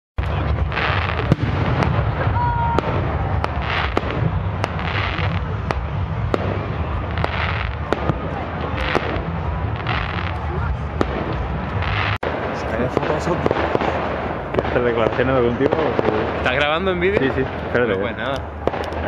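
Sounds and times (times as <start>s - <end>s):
crowd noise: 0.2s - 19.0s
fireworks bangs: 0.2s - 19.0s
fireworks crackling: 0.2s - 19.0s.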